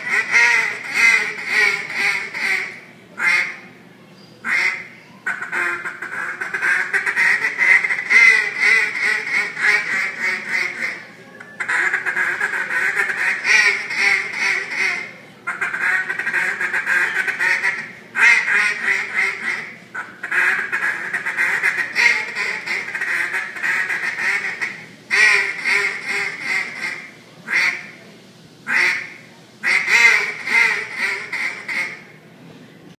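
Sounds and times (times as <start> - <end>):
duck call quacking: 0.0 - 3.6, 4.4 - 11.0, 11.6 - 28.0, 28.7 - 32.1.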